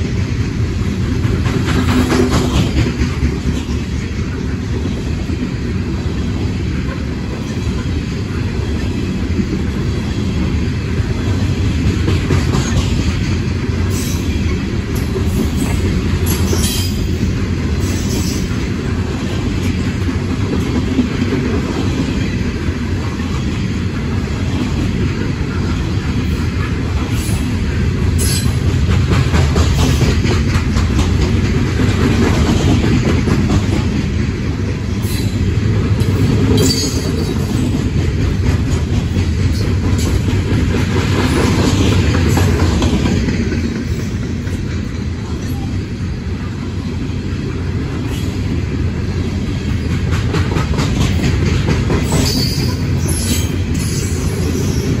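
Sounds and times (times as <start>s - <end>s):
train wheels rumbling on rail: 0.0s - 55.0s
wheels clacking over rail joints: 0.9s - 45.7s, 49.5s - 55.0s.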